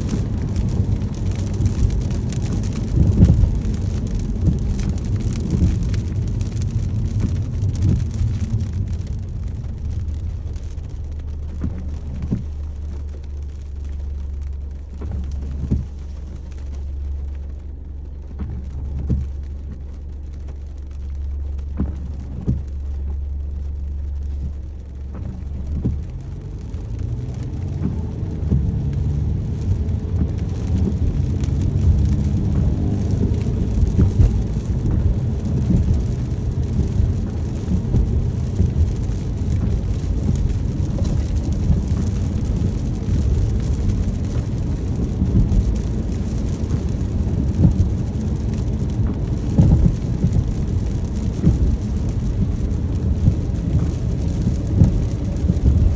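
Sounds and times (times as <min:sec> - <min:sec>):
car engine from inside: 0:00.0 - 0:55.9
rain on a car: 0:00.0 - 0:55.9
road rumble: 0:00.0 - 0:55.9.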